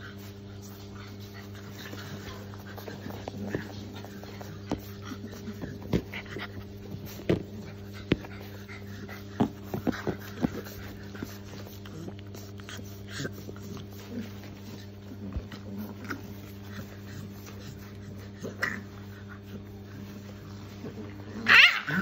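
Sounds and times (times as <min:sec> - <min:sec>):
puppies panting: 0:00.0 - 0:22.0
puppy vocal sounds: 0:00.0 - 0:22.0
steady low hum: 0:00.0 - 0:22.0.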